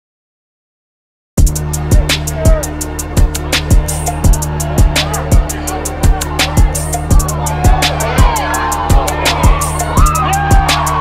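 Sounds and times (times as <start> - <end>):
deep kick drum: 1.4 - 11.0
steady bass: 1.4 - 11.0.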